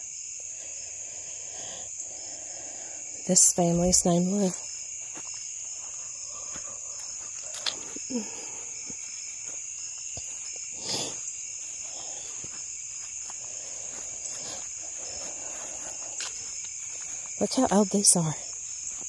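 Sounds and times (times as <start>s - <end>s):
high-pitched insect chorus trilling: 0.0s - 19.0s.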